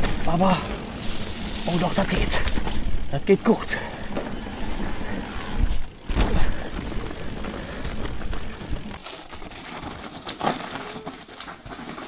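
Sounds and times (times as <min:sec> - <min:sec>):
bike tyre rumble and rattle: 0:00.0 - 0:12.0.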